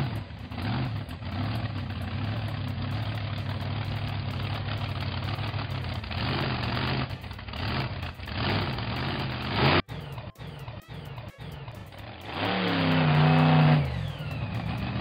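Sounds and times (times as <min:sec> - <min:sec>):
engine running with low hum: 0:00.0 - 0:15.0.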